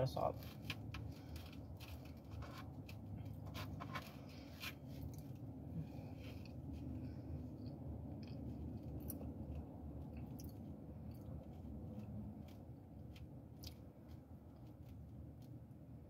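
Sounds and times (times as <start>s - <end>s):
low car rumble: 0.0s - 16.0s
person chewing food: 0.6s - 16.0s.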